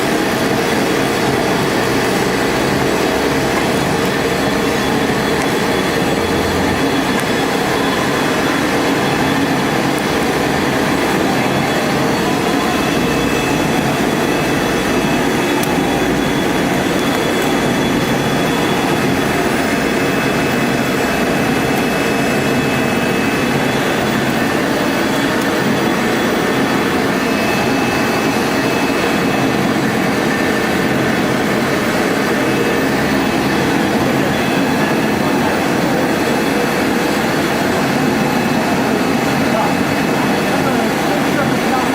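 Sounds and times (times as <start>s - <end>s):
cnc router cutting foam board: 0.0s - 41.9s
high spindle whine: 0.0s - 41.9s.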